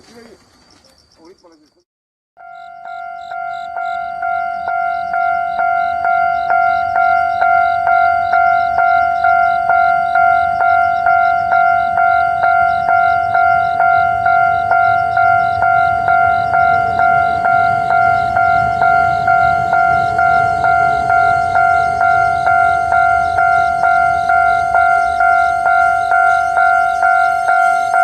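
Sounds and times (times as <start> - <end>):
level-crossing warning bell: 2.4 - 28.0
low rumble: 3.3 - 28.0.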